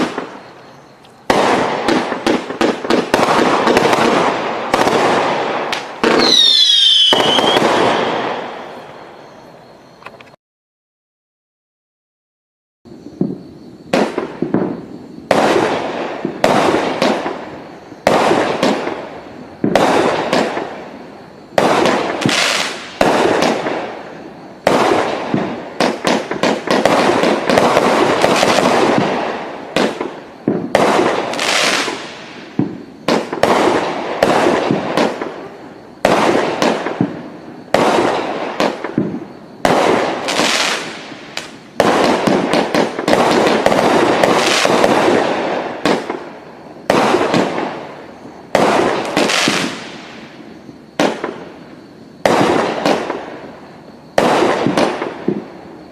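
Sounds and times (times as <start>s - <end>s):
firework bangs with hiss: 0.0s - 9.2s, 13.0s - 55.9s.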